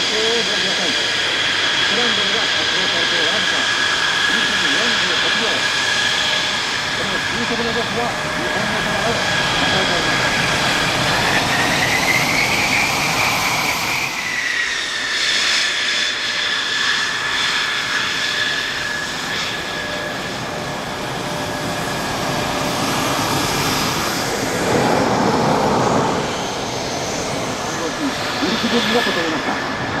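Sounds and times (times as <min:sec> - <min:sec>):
jet engines whining and roaring: 0:00.0 - 0:30.0.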